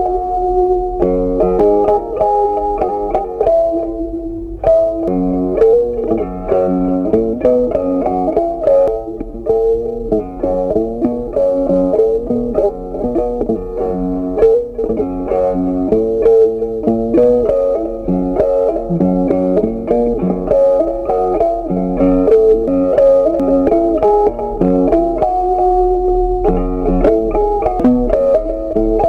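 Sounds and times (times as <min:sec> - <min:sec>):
bass line: 0:00.0 - 0:29.0
plucked guitar melody: 0:00.0 - 0:29.0.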